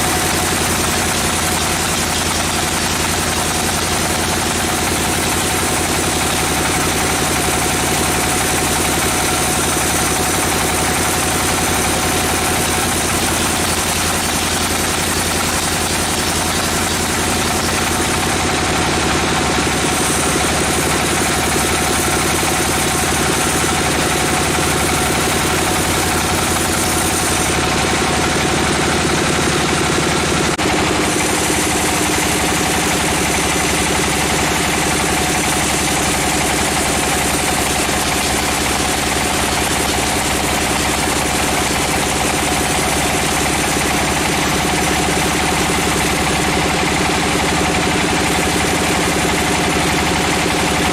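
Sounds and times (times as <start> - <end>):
sawmill saw pulsing: 0.0 - 50.9.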